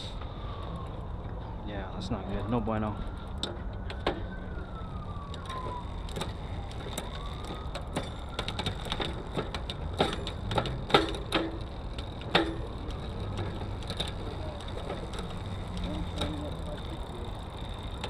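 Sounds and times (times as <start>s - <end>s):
clicks and knocks from bicycle: 3.1s - 18.0s.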